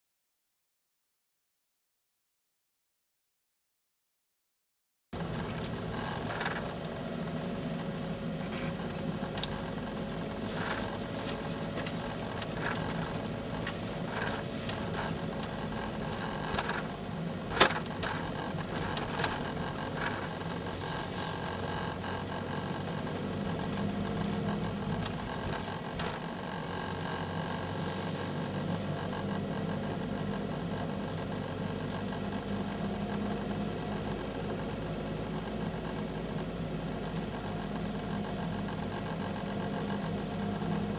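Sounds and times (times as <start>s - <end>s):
tyre and road noise: 5.2s - 40.9s
vehicle engine running: 5.2s - 40.9s.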